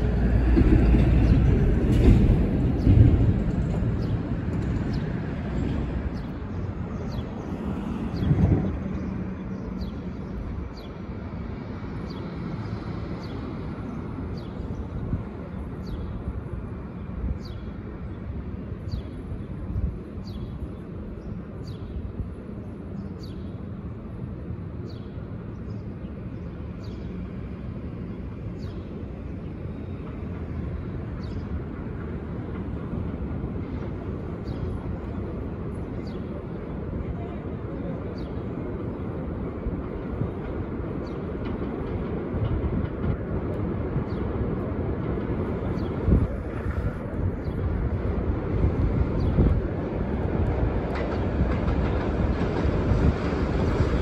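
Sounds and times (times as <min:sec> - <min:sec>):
distant subway train rumbling: 0:00.0 - 0:54.0.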